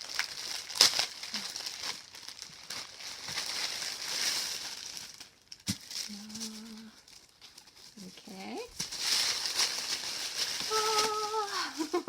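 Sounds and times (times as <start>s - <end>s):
packaging crinkling and rustling: 0.0s - 12.0s
sharp crackle: 0.0s - 12.0s.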